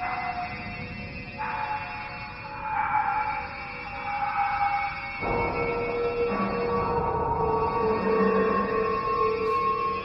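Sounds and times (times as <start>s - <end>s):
eerie high-pitched drone: 0.0s - 10.0s.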